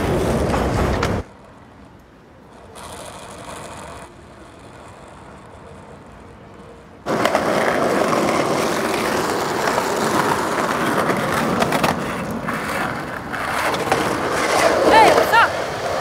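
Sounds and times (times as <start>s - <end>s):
skateboard rolling over pavement: 0.0s - 16.0s
skateboard wheels clacking: 0.0s - 16.0s.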